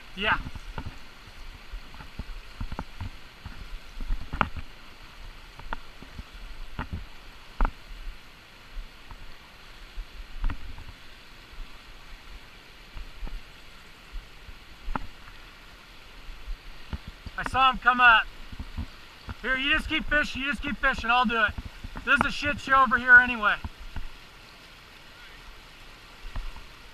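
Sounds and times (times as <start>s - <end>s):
river rushing over rocks: 0.0s - 26.9s.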